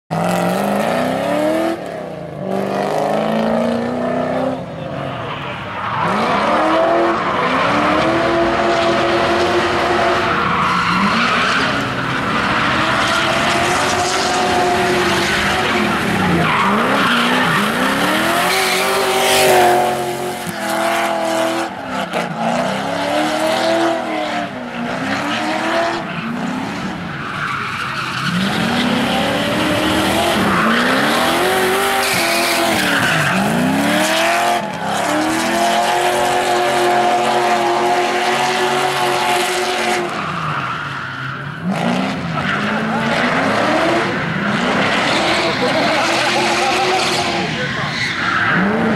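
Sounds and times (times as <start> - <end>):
car engine revving: 0.1 - 48.9
tyres squealing on tarmac: 4.4 - 48.9.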